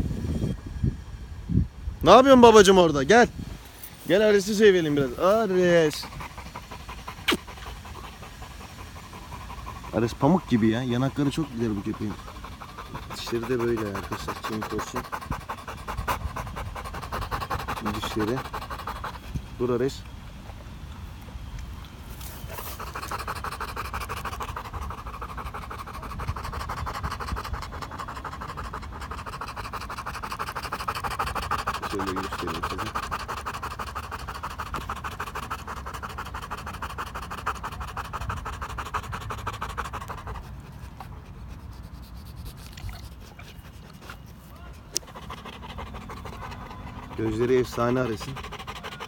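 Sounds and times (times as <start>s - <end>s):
dog panting: 4.0s - 49.0s.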